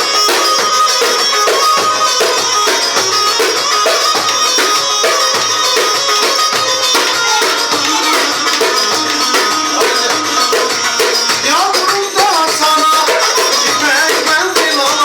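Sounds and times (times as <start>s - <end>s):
dance music with fast percussion: 0.0s - 15.0s.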